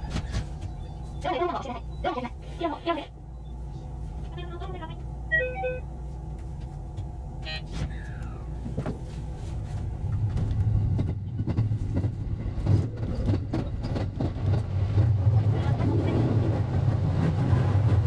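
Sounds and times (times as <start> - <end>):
train rumble with rapid clicks: 0.0 - 18.0.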